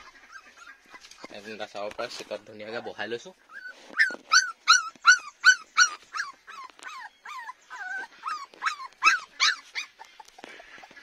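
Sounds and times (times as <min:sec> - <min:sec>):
puppies whimpering and yelping: 0:00.0 - 0:01.9, 0:02.6 - 0:11.0.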